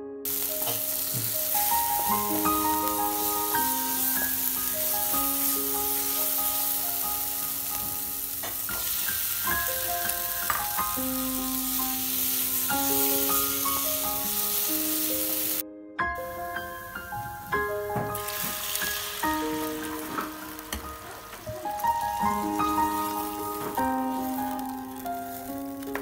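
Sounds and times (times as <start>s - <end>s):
slow background music: 0.0s - 26.0s
potatoes sizzling in oil: 0.3s - 15.6s, 16.2s - 26.0s.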